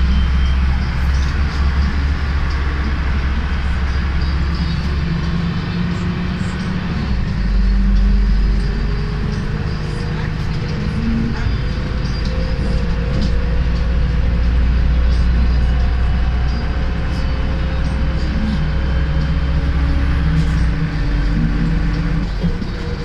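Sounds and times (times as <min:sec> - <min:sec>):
bus engine drone: 0:00.0 - 0:23.0
road rumble: 0:00.0 - 0:23.0
steady whine: 0:00.0 - 0:23.0.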